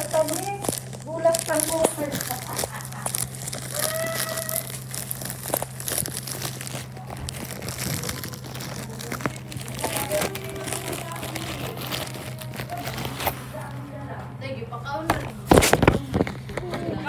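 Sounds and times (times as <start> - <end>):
plastic bag crinkling: 0.0 - 13.9, 15.1 - 17.0
steady low hum: 0.0 - 17.0.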